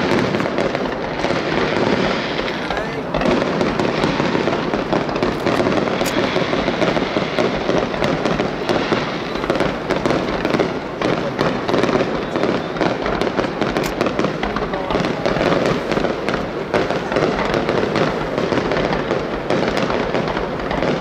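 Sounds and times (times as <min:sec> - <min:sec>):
fireworks bangs: 0:00.0 - 0:21.0
fireworks crackling and popping: 0:00.0 - 0:21.0.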